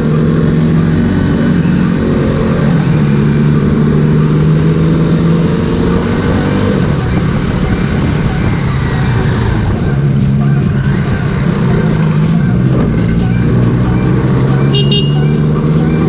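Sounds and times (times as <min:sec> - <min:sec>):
wind noise: 0:00.0 - 0:15.6
motorcycle engine cruising: 0:00.0 - 0:16.0
road noise: 0:00.0 - 0:16.0.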